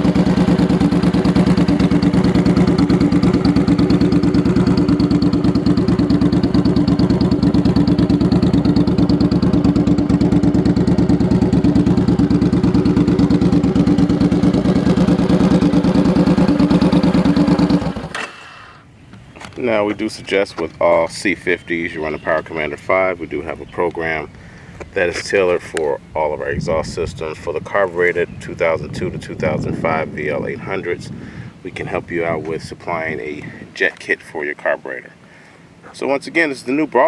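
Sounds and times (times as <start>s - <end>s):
motorcycle engine idling: 0.0s - 34.1s.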